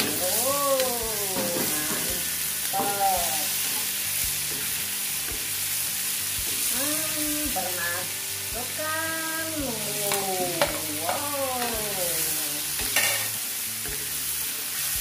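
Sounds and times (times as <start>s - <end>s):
shrimp sizzling in a wok: 0.0s - 15.0s.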